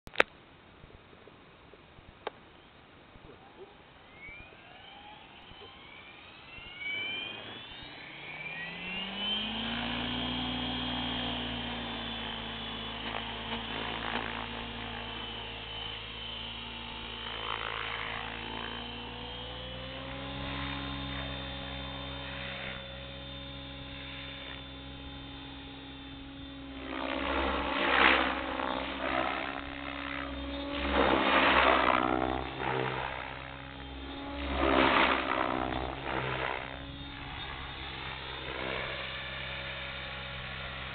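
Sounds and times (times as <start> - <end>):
electric helicopter motor whine: 2.6 - 40.9.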